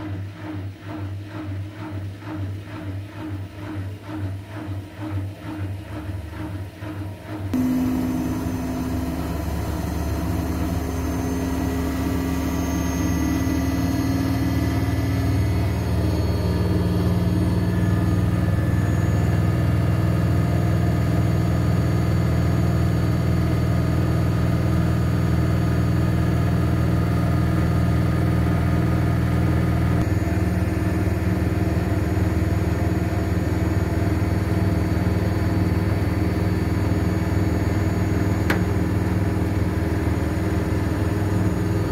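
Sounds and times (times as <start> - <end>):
washing machine drum spinning: 0.0 - 41.9.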